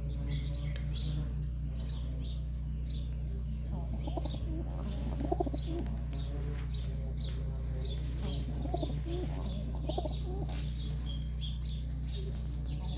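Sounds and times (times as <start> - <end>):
pigeons cooing: 0.0 - 12.9
small birds chirping: 0.0 - 12.9
steady low hum: 0.0 - 12.9.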